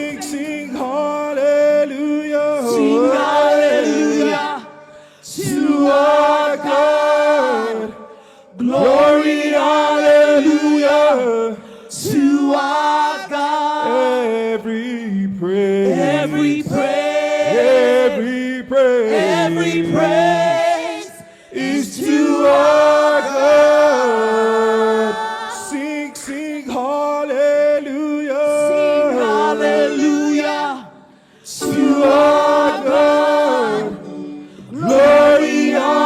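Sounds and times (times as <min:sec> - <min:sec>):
worship team singing a praise song: 0:00.0 - 0:36.0.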